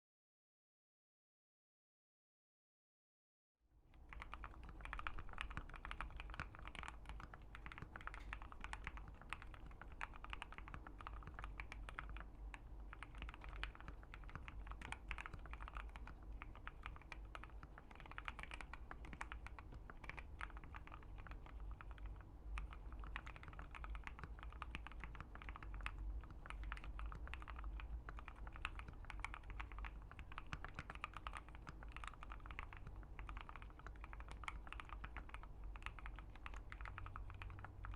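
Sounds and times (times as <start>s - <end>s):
faint low hum: 3.7s - 37.9s
mechanical keyboard typing: 4.0s - 37.9s.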